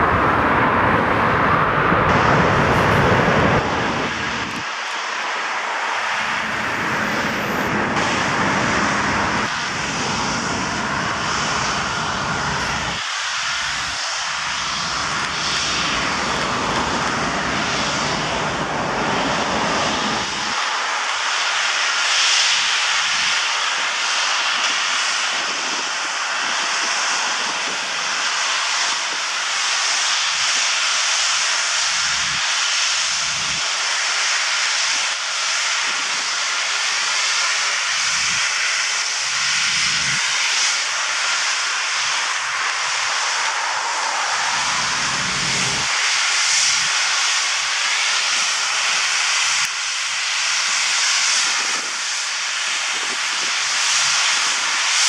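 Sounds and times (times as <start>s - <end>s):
jet engines hissing and whining: 0.0s - 55.0s
wind rumble on microphone: 0.0s - 55.0s.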